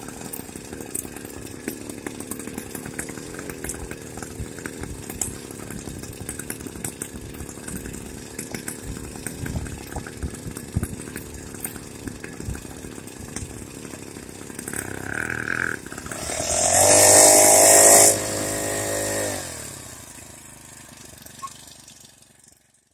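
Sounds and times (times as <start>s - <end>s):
small engine running with rattle: 0.0s - 22.9s.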